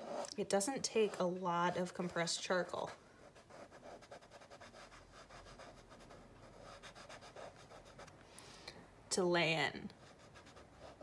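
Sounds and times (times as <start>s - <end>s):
charcoal scratching on paper: 0.0s - 8.1s, 9.9s - 11.0s.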